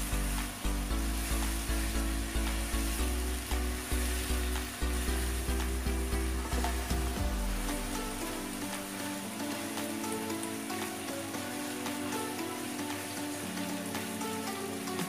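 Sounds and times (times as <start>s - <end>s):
background music with steady beat: 0.0s - 15.0s
food sizzling in a wok: 0.0s - 15.0s.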